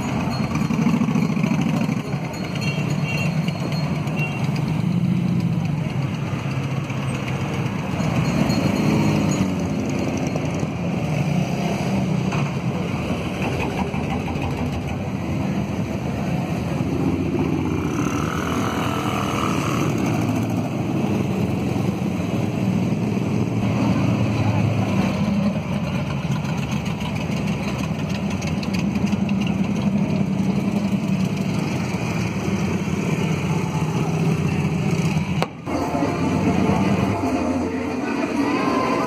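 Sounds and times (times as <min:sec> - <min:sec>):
motorcycle engines running slowly: 0:00.0 - 0:11.0, 0:12.0 - 0:37.2.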